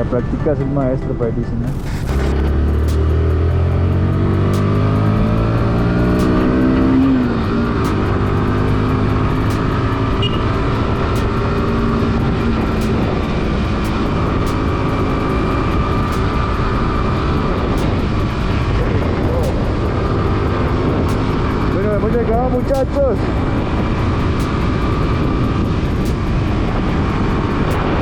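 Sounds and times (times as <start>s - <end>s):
wind noise on microphone: 1.5s - 28.0s
motorcycle engine accelerating: 1.7s - 28.0s.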